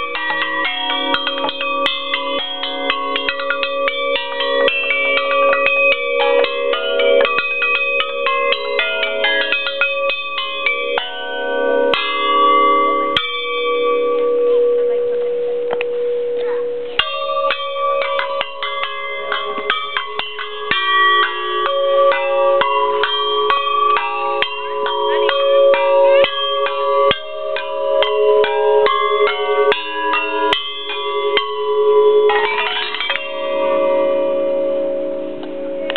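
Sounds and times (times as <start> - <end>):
tube xylophone notes ringing: 0.0 - 35.9.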